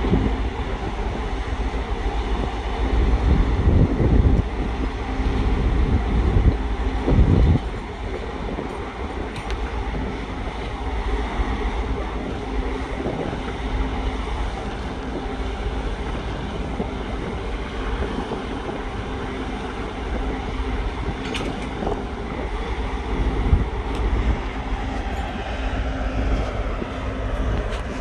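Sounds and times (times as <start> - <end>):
crane mechanical rumble: 0.0 - 28.0.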